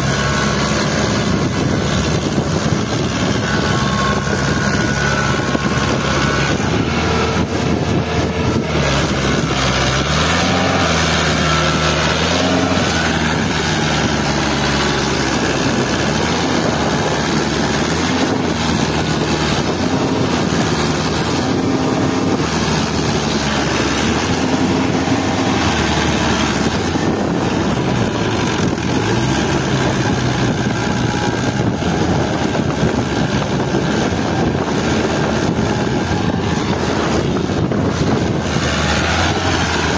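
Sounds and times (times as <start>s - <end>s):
tractor diesel engine revving: 0.0s - 39.9s.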